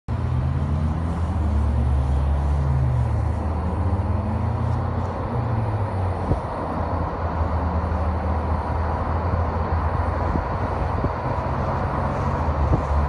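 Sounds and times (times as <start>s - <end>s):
truck engine and road drone: 0.1s - 13.0s.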